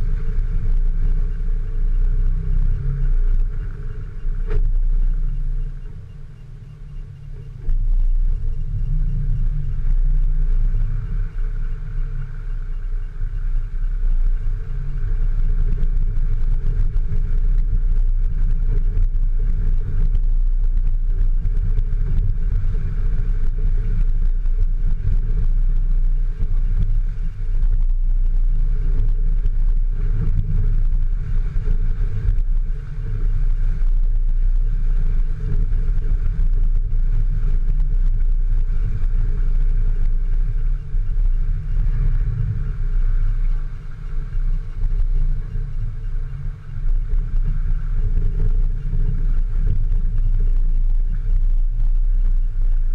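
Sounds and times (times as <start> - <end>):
off-road vehicle engine rumbling: 0.0 - 52.9.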